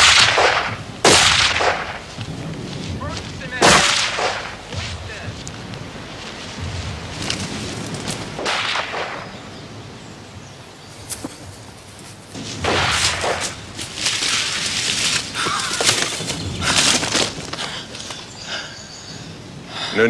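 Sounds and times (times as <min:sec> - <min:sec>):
branches rustling and swishing: 0:00.0 - 0:09.5, 0:10.9 - 0:18.6.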